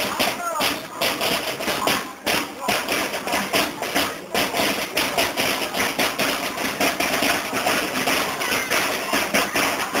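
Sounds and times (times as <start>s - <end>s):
marching band drums: 0.0s - 10.0s.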